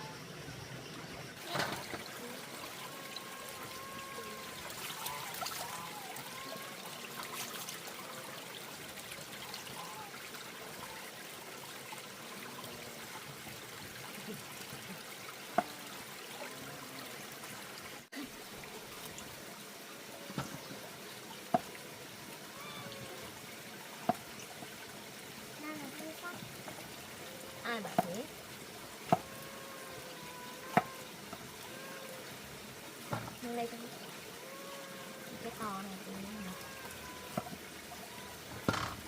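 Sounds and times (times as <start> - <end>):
trickle of running water: 0.0 - 39.0.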